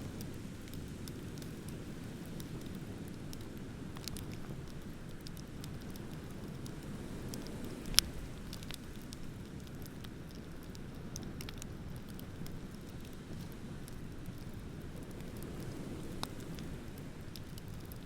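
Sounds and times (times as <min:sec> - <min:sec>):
bonfire crackling and popping: 0:00.0 - 0:18.0.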